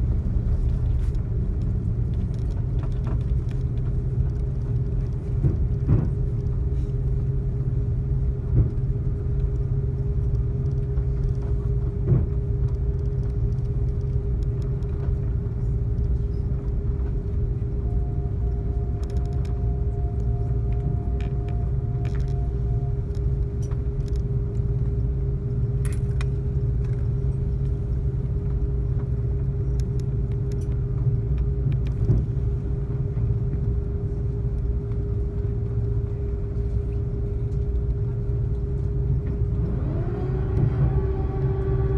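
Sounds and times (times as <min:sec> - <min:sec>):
aircraft engines and wheels rumbling: 0:00.0 - 0:41.9
constant hum: 0:00.0 - 0:41.9.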